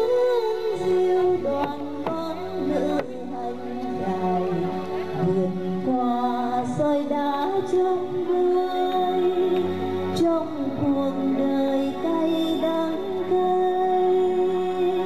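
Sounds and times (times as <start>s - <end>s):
woman singing a slow song: 0.0s - 15.0s.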